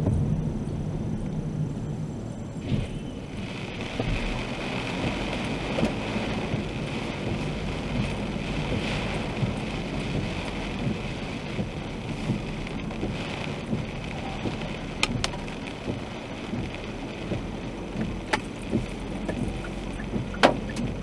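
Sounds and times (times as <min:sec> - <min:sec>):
car driving in rain: 0:00.0 - 0:21.0
hailstones striking car: 0:02.6 - 0:21.0.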